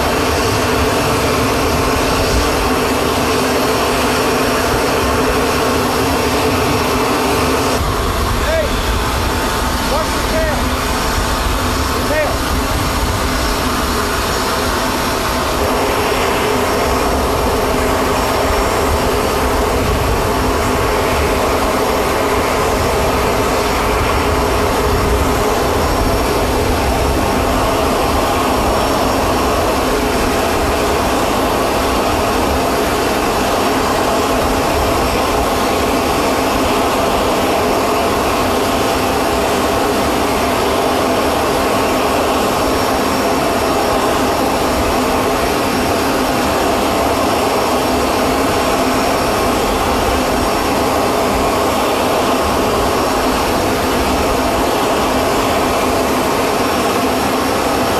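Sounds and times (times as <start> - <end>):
jet turbine roar with whine: 0.0 - 57.9.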